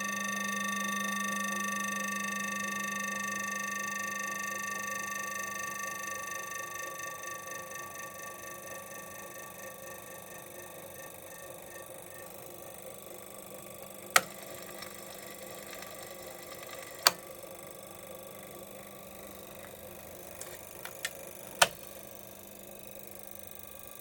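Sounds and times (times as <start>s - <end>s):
steady mechanical buzz: 0.0s - 24.0s.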